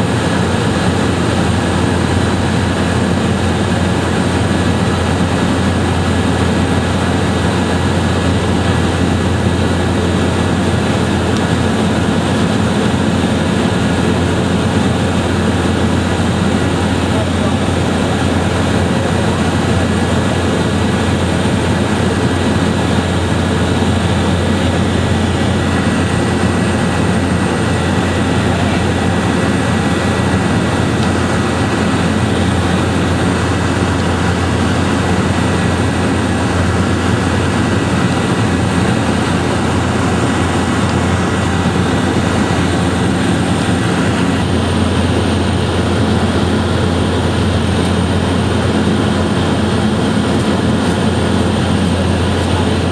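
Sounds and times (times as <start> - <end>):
loud engine drone: 0.0 - 52.9.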